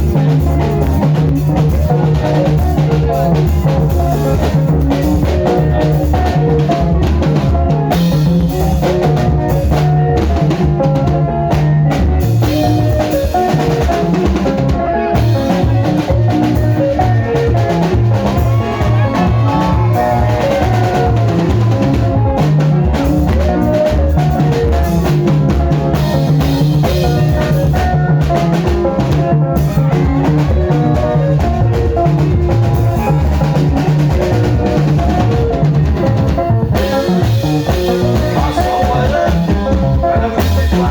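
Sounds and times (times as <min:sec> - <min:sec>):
bass line: 0:00.0 - 0:40.9
drum kit: 0:00.0 - 0:40.9.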